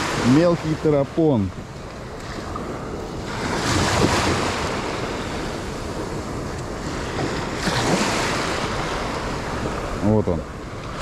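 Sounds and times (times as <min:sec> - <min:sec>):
surf washing on sandy shore: 0:00.0 - 0:11.0
wind buffeting microphone: 0:00.0 - 0:11.0.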